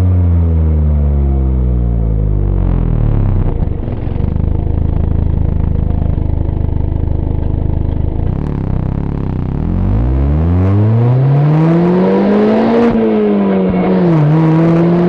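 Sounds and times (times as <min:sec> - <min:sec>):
car engine and exhaust revving: 0:00.0 - 0:15.0.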